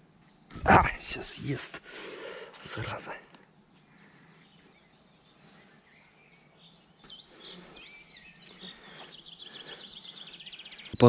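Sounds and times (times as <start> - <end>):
small birds chirping and whistling: 0.0 - 11.0.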